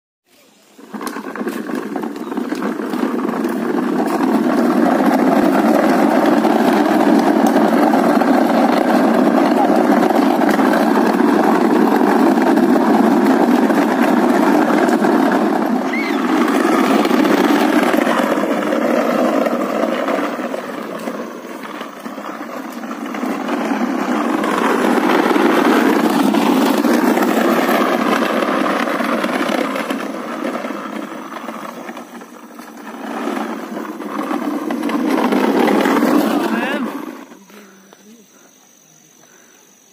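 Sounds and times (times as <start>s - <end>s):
plastic wheels rumbling on concrete: 0.3s - 39.9s.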